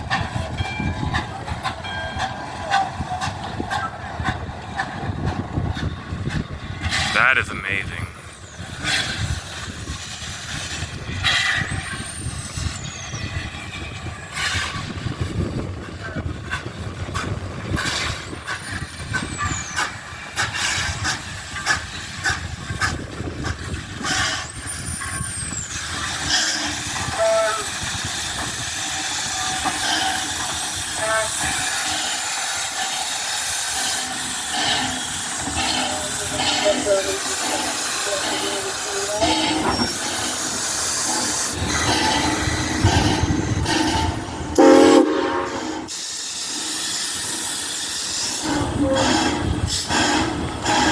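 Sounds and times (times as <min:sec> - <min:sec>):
steam locomotive hissing: 0:00.0 - 0:50.9.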